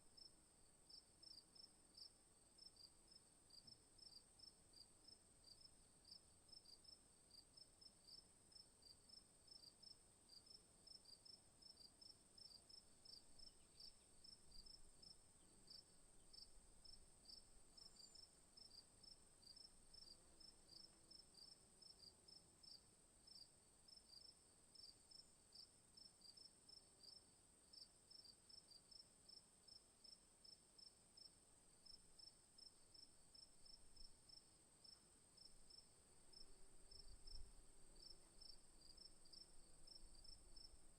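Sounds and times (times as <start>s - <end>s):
faint cricket chirping: 0.0s - 40.9s.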